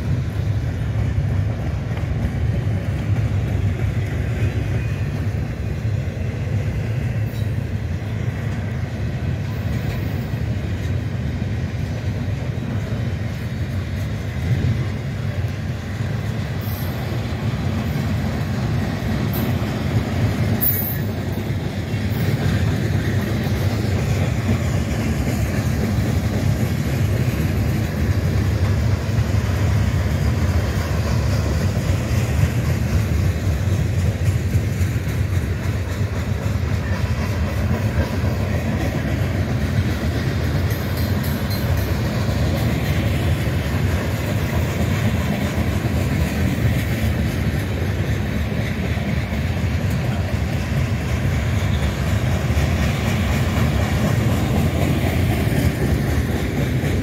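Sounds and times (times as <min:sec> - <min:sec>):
freight train wheels rolling on rails: 0:00.0 - 0:57.0.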